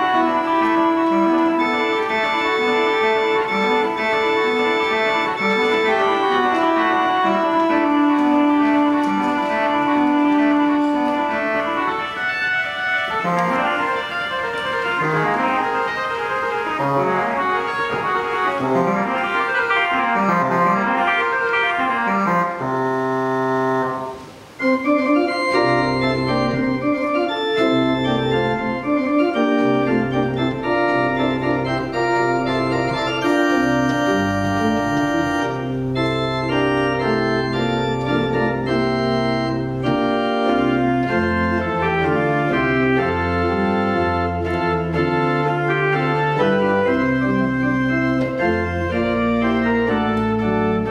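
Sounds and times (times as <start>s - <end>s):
pipe organ playing: 0.0s - 50.9s.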